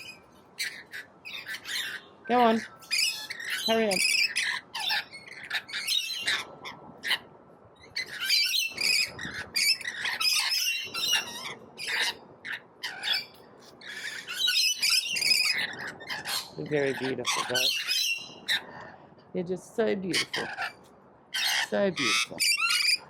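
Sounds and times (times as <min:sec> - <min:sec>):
parrots screeching and chattering: 0:00.0 - 0:19.0, 0:20.1 - 0:23.0.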